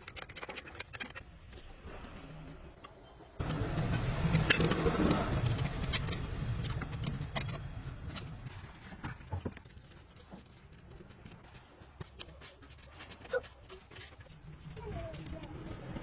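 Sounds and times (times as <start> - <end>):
vehicle engine rumbling: 0.9 - 16.0.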